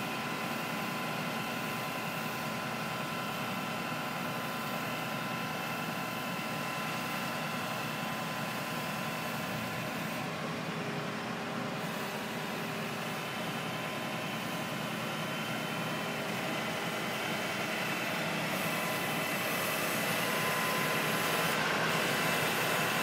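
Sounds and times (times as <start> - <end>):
thin steady hydraulic whine: 0.0 - 23.0.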